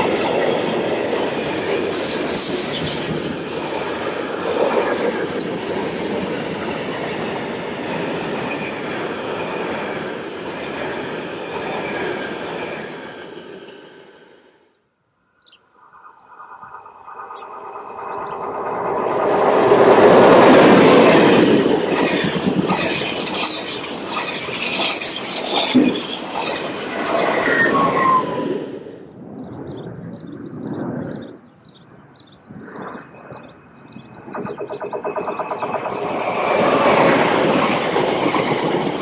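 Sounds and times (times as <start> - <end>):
train approaching: 0.0 - 14.8, 15.4 - 29.5, 33.2 - 39.0
train passing: 0.0 - 14.8, 15.8 - 29.7, 32.6 - 39.0.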